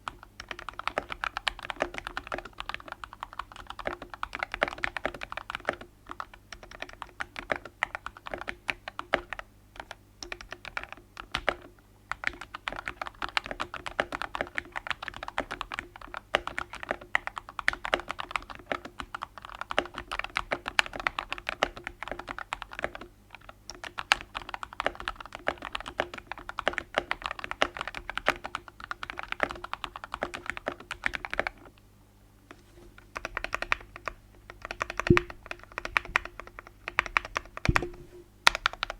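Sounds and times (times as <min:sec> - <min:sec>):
mechanical keyboard typing: 0:00.0 - 0:31.7, 0:33.1 - 0:38.9.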